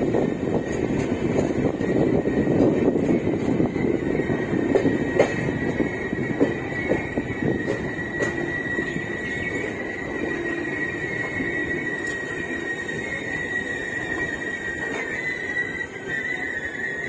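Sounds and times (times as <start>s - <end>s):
train rumbling: 0.0s - 17.0s
high wheel squeal: 0.4s - 17.0s.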